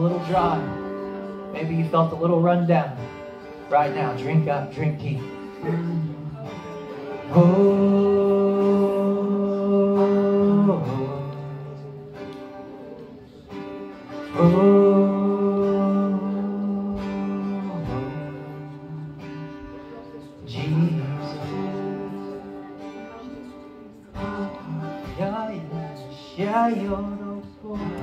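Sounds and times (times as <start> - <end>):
acoustic guitar strummed softly: 0.0 - 28.0
person singing wordless notes: 0.0 - 28.0.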